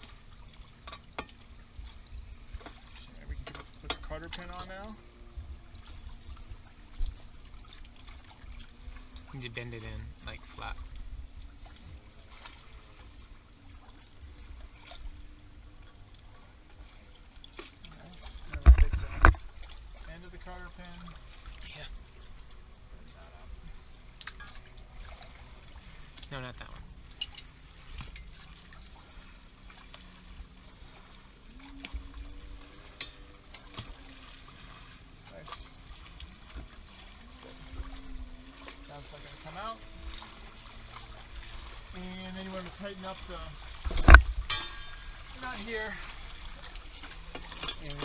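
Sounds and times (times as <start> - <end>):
water lapping around hull: 0.0 - 48.0.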